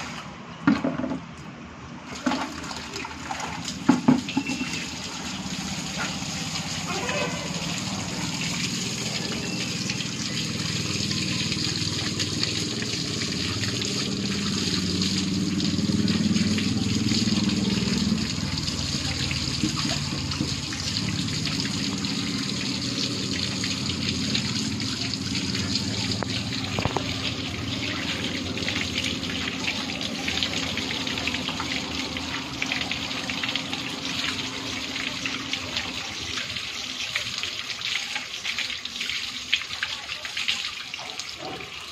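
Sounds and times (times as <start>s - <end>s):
tap water gushing and splashing: 0.0s - 1.2s, 2.0s - 41.9s.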